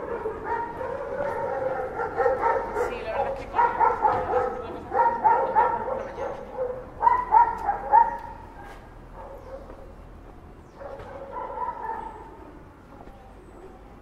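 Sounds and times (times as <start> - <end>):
dog barking: 0.0 - 10.0, 10.7 - 12.5.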